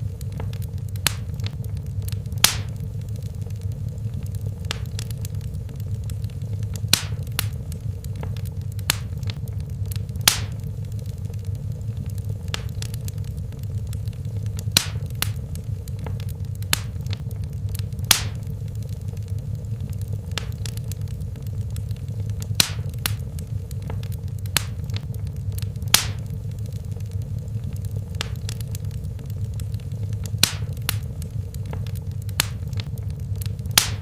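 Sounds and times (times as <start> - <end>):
wood fire burning: 0.0 - 34.0.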